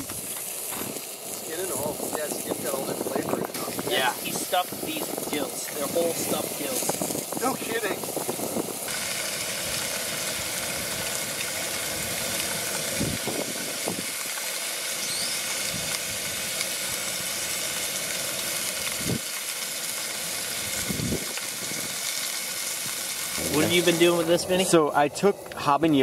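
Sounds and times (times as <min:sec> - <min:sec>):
fish sizzling on a grill: 0:00.0 - 0:26.0.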